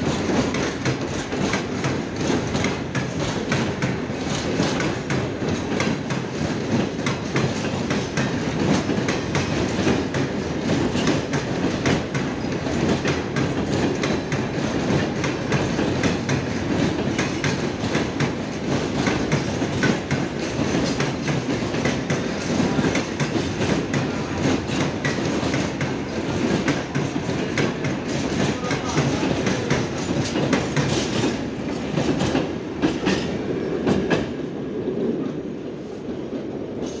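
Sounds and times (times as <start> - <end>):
wheels clacking over rail joints: 0.0 - 34.3
freight train rumbling past: 0.0 - 37.0.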